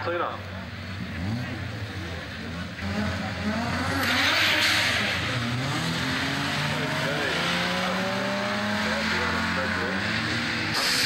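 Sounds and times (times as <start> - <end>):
car engine revving hard: 0.8 - 11.0
tyres spinning in a burnout: 0.9 - 11.0.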